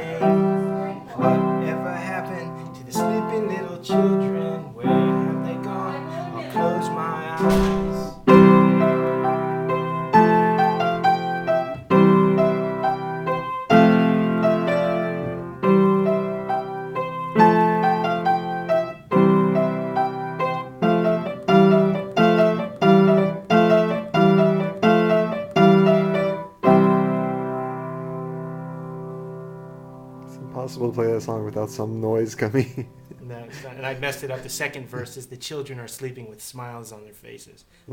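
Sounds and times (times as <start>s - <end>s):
piano chords: 0.0s - 33.1s.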